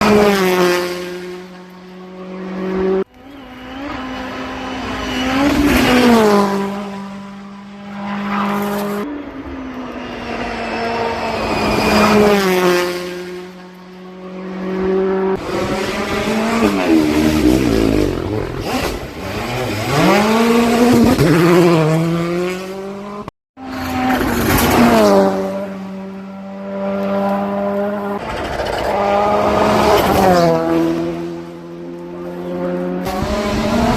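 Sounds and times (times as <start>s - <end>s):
rally car engines revving hard: 0.0s - 9.0s, 14.4s - 33.9s.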